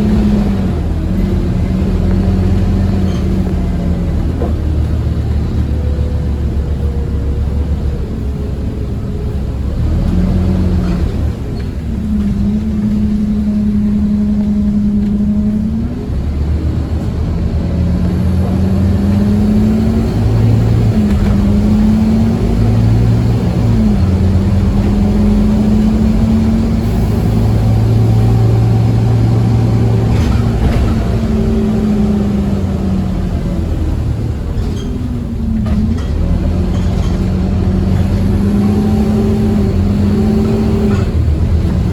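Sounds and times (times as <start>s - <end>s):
bus diesel engine pulling hard: 0.0s - 41.9s.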